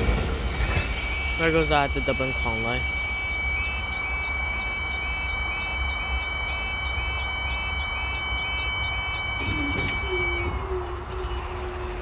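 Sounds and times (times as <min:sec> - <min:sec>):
constant low rumble: 0:00.0 - 0:12.0
level crossing alarm: 0:00.0 - 0:12.0.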